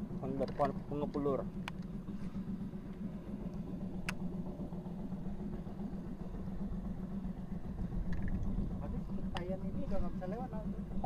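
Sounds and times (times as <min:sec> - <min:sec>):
small boat motor humming: 0:00.0 - 0:11.0.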